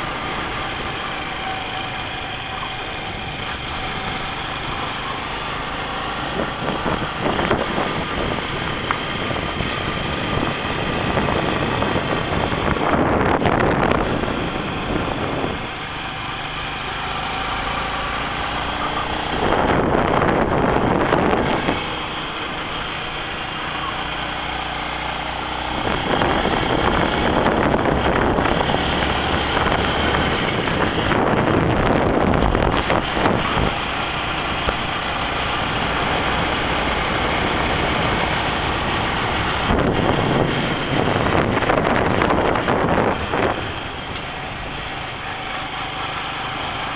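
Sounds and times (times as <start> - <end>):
vehicle engine running: 0.0 - 46.9
wind rushing over microphone: 5.8 - 15.9, 18.3 - 46.6.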